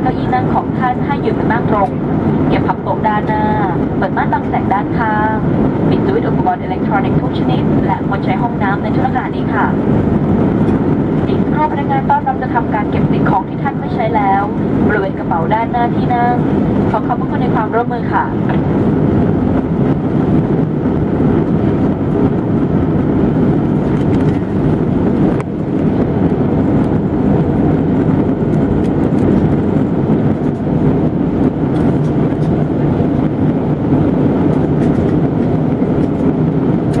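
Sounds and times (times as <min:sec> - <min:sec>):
airliner engines and airflow rush: 0:00.0 - 0:37.0.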